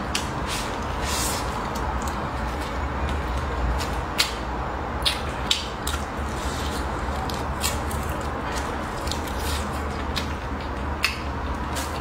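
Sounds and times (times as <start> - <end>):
man chewing food: 0.0 - 12.0
steady low hum: 0.0 - 12.0.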